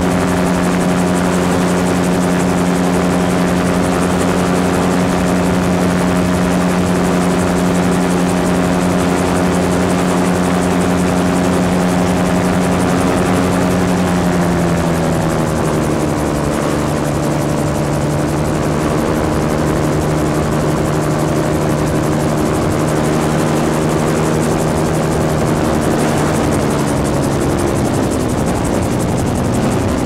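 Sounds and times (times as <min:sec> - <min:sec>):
aircraft engine and propeller: 0:00.0 - 0:30.0
wind rush on microphone: 0:00.0 - 0:30.0.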